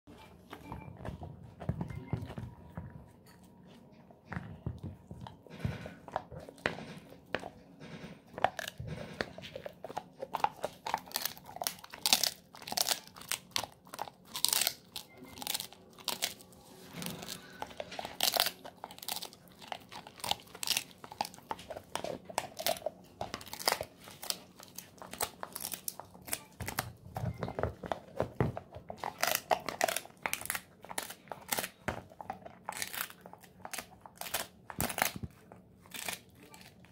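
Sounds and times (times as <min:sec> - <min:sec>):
dog chewing crunchy treat: 0:00.3 - 0:36.9.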